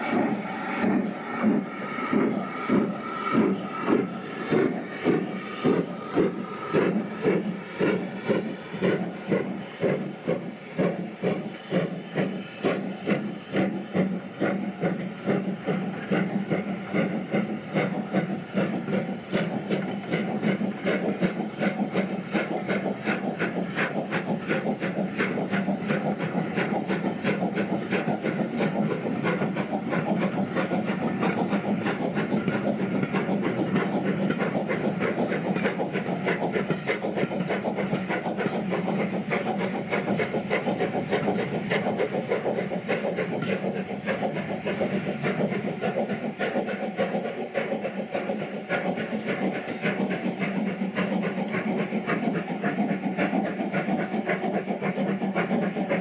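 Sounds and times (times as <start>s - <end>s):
steam locomotive exhaust beats: 0.0s - 56.0s
train wheels clattering over rail joints: 0.0s - 56.0s.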